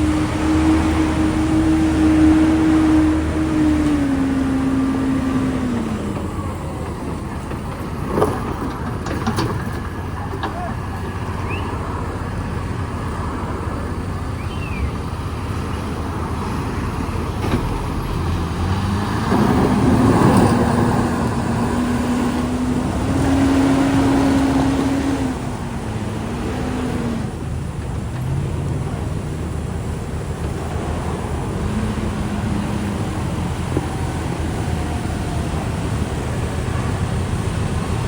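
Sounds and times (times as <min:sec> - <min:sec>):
construction machine diesel engine: 0:00.0 - 0:38.0.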